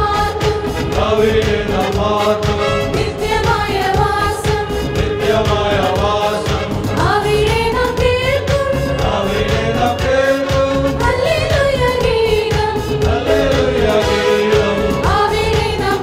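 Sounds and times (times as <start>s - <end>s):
regular beat: 0.0s - 16.0s
women and girls singing: 0.0s - 16.0s.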